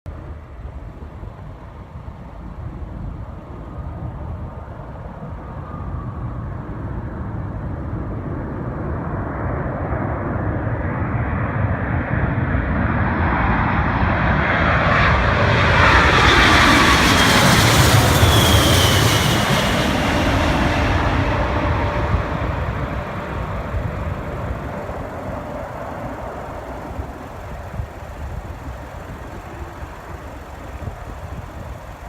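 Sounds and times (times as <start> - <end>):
airliner jet engines approaching: 0.2 - 32.0.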